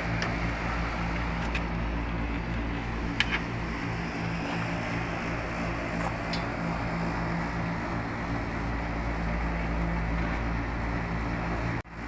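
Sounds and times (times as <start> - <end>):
machinery drone: 0.0 - 12.0.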